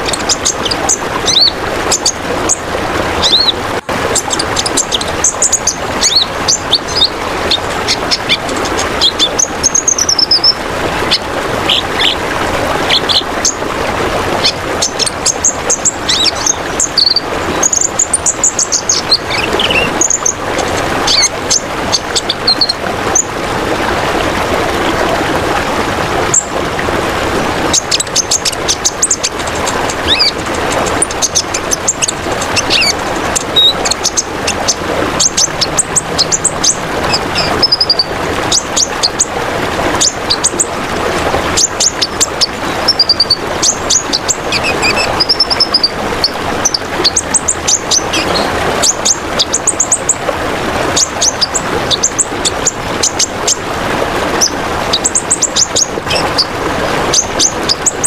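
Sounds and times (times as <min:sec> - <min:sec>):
songbird singing: 0:00.0 - 0:12.2, 0:12.8 - 0:13.6, 0:14.4 - 0:23.3, 0:27.7 - 0:39.3, 0:41.5 - 0:50.2, 0:51.0 - 0:53.6, 0:54.4 - 0:56.5, 0:57.1 - 0:58.0
water trickling: 0:00.0 - 0:58.0.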